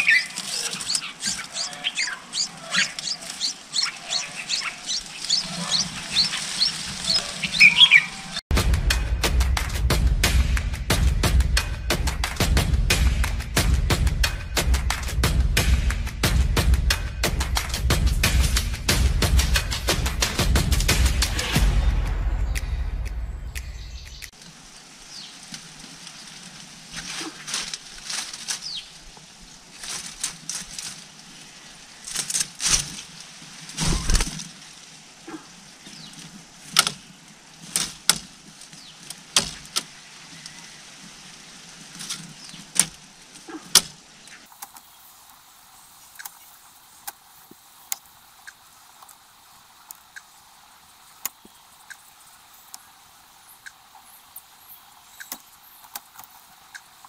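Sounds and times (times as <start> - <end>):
low hiss: 0.0 - 57.0
rustles and clicks in leaves: 0.0 - 57.0.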